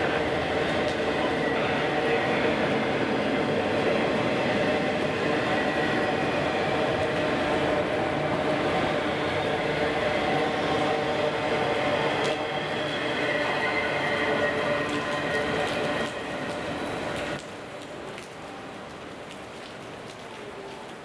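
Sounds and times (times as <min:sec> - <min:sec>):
freight train wheels on rails: 0:00.0 - 0:21.0
steady rain: 0:00.0 - 0:21.0.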